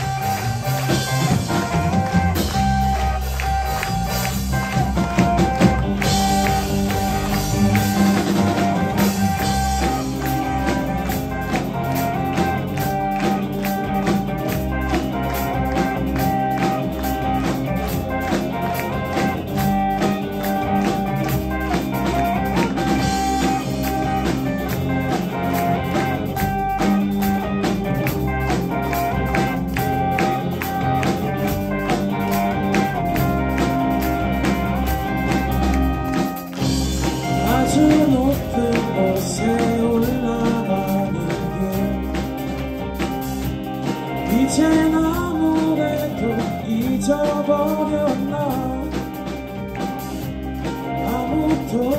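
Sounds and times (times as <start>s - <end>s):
bass guitar: 0.0s - 51.9s
drum-kit beat: 0.0s - 51.9s
electric guitars: 0.0s - 51.9s.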